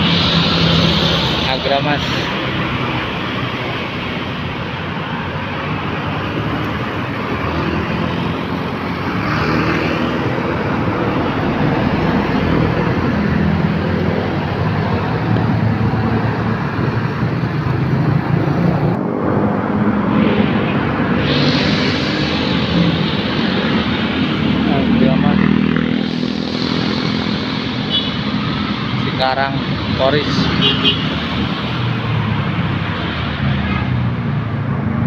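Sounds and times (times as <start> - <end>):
bus passing: 0.0 - 35.0
cars passing: 0.0 - 35.0
motorcycles passing: 0.0 - 35.0.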